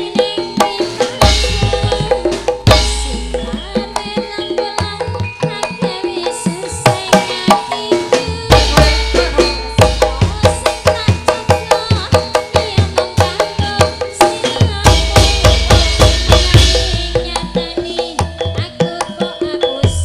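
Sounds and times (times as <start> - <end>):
ringing bronze metallophones: 0.0 - 20.0
woman singing through pa: 0.0 - 20.0.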